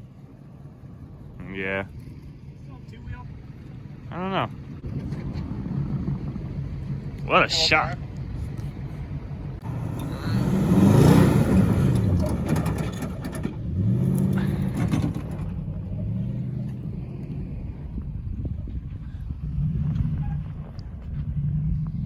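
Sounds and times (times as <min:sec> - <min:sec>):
vehicle engine revving: 0:01.1 - 0:22.0.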